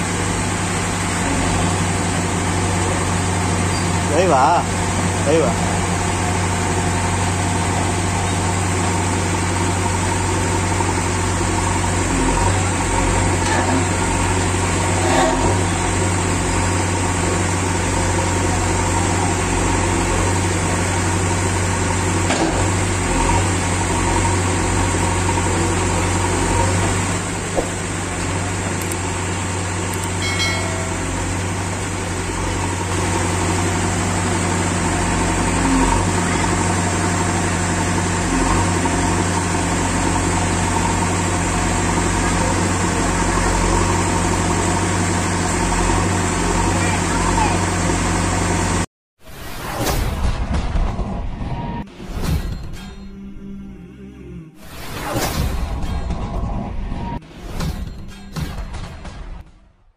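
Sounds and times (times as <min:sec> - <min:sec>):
backhoe digging sand: 0:00.0 - 0:50.8
diesel engine running: 0:00.0 - 0:59.2.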